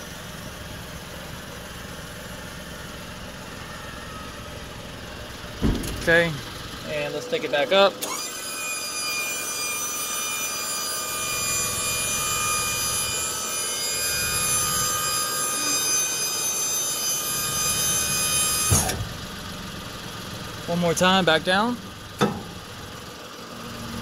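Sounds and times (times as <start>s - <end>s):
hydraulic pump whining: 0.0s - 24.0s.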